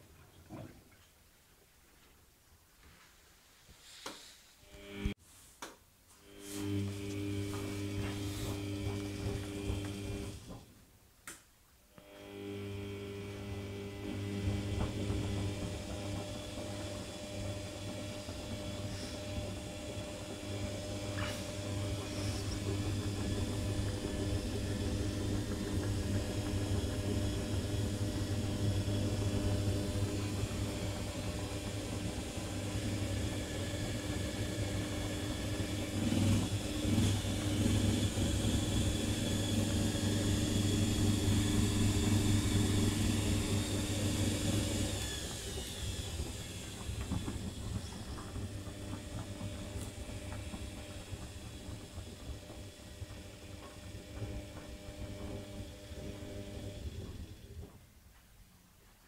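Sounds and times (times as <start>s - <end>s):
washing machine motor hum: 4.6s - 5.2s, 6.2s - 10.8s, 12.0s - 58.1s.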